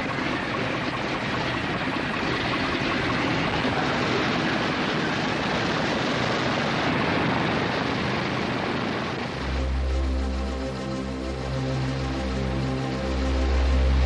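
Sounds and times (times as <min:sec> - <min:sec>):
propeller aircraft engines running: 0:00.0 - 0:14.0.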